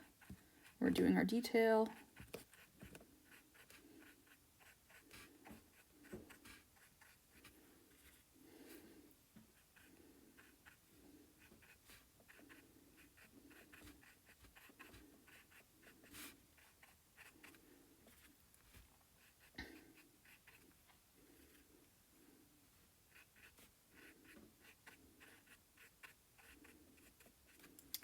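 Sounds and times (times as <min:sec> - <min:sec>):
paintbrush dabbing on paper: 0:01.9 - 0:08.8, 0:09.4 - 0:21.7, 0:23.1 - 0:27.9.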